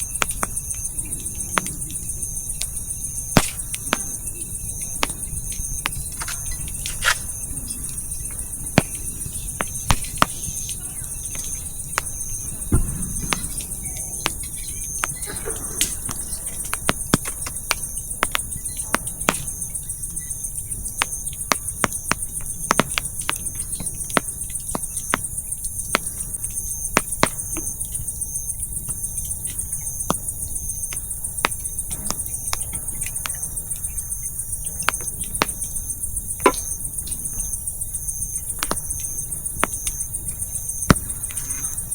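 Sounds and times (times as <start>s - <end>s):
firewood crackling and popping: 0.0s - 41.9s
insects chirping: 0.0s - 41.9s.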